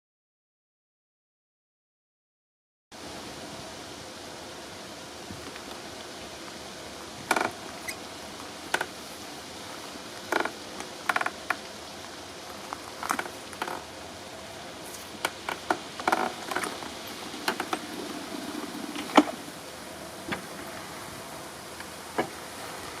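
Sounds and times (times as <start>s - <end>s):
steady hiss: 3.0s - 23.0s.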